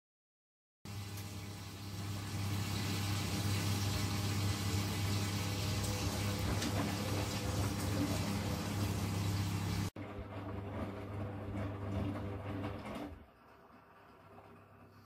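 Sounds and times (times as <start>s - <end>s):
washing machine drain pump humming: 0.9s - 15.0s.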